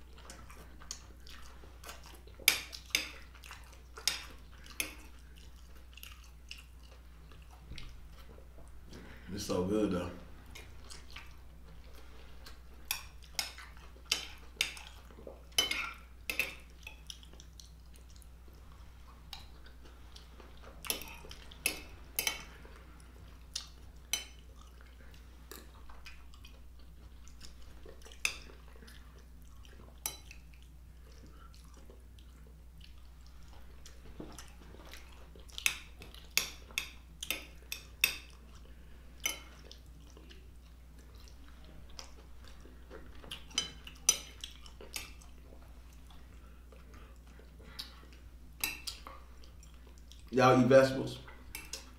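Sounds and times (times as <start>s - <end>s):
chewing food: 0.0s - 9.2s, 10.3s - 50.4s, 51.2s - 51.9s
faint low hum: 0.0s - 51.9s.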